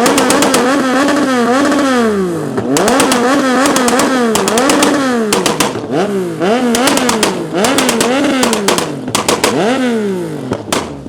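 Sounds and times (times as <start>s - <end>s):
car engine revving on limiter: 0.0s - 11.0s
exhaust crackling and popping: 0.0s - 11.0s.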